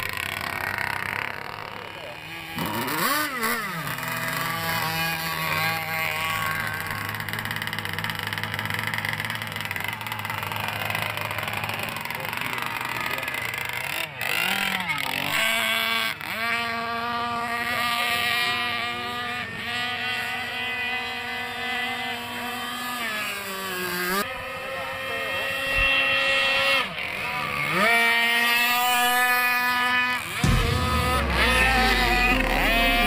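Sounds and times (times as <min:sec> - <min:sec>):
model boat engine revving: 0:00.0 - 0:30.4.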